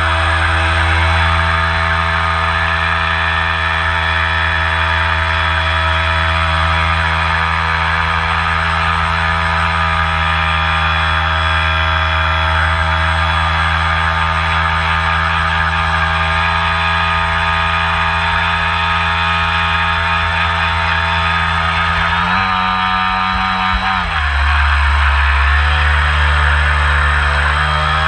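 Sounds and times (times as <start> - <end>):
model boat motor whine: 0.0 - 28.0.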